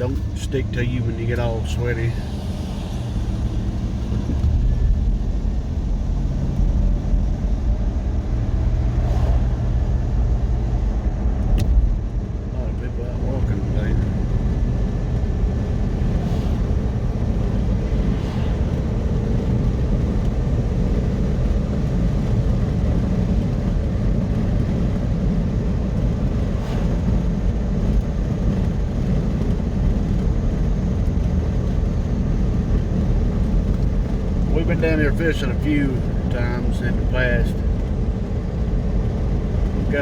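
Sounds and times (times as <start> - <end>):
car road noise rumble: 0.0 - 40.0.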